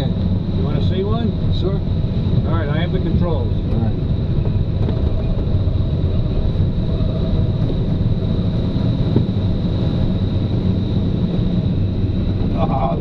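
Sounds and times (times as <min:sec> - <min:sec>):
air rushing over glider: 0:00.2 - 0:13.0.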